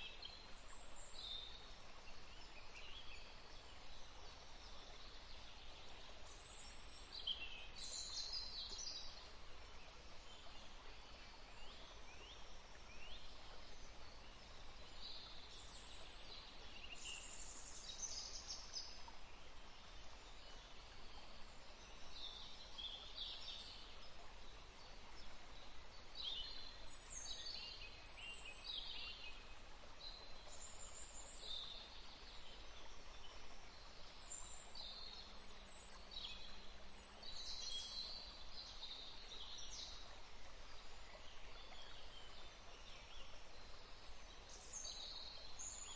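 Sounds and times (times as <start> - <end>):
faint outdoor hiss: 0.0 - 45.9
small songbirds chirping: 0.0 - 45.9.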